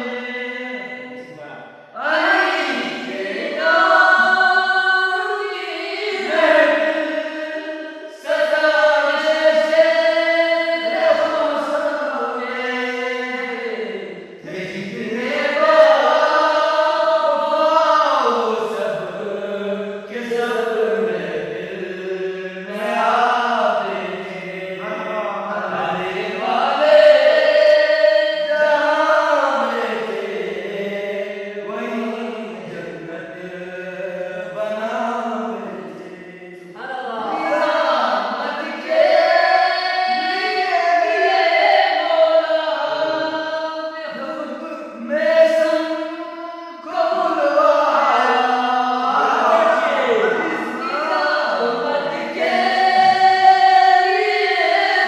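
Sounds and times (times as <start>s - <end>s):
men chanting together: 2.0s - 55.0s.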